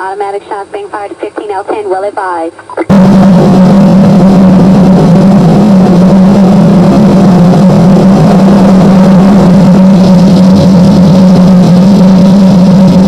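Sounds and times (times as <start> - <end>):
distorted harsh noise: 0.0 - 13.0
steady low hum: 0.0 - 13.0.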